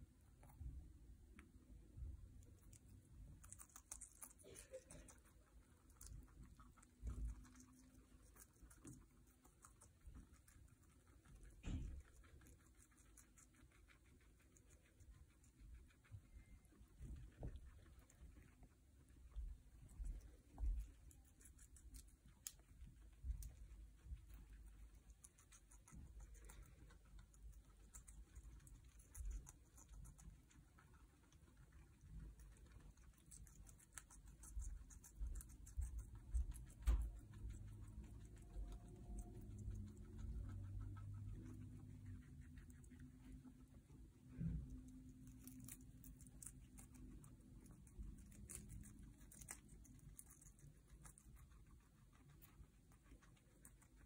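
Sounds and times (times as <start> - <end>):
guinea pigs chewing: 0.0 - 54.0.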